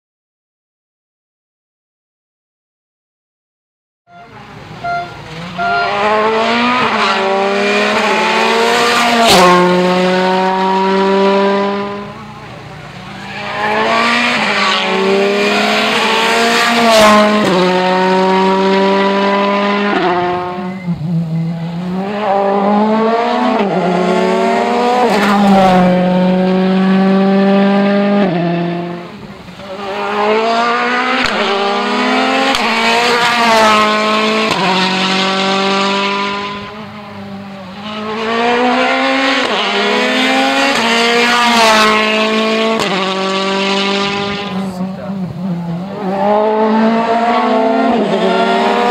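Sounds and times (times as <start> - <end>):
rally car engines accelerating: 4.1 - 48.9.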